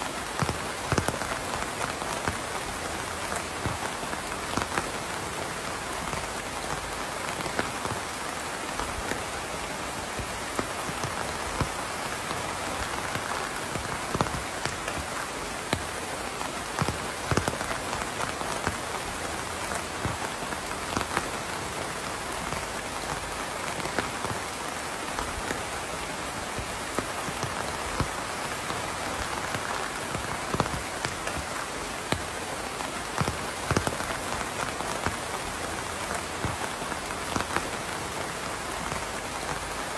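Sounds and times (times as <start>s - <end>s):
rain pattering: 0.0s - 39.9s
raindrops ticking: 0.0s - 39.9s.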